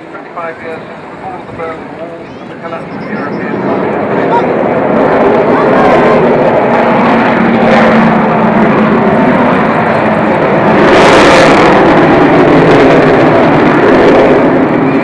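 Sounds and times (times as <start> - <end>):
jet bomber passing: 0.0 - 15.0.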